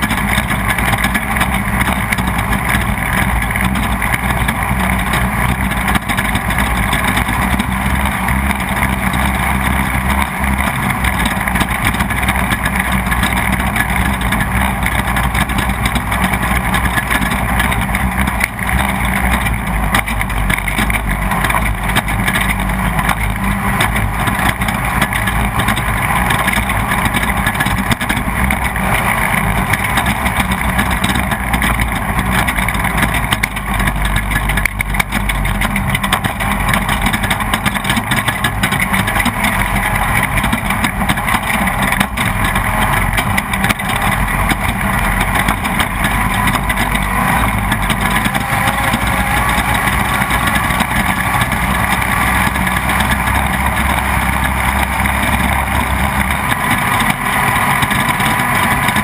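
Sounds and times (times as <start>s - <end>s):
race vehicle engine running hard: 0.0s - 59.0s
vehicle jolts and rattles: 0.0s - 59.0s.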